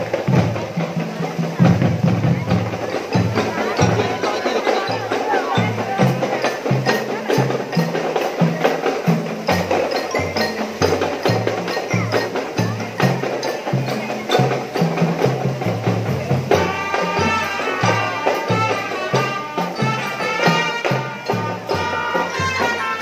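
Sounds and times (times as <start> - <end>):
marching drum band playing: 0.0 - 23.0
melodic instrument held notes: 2.4 - 23.0.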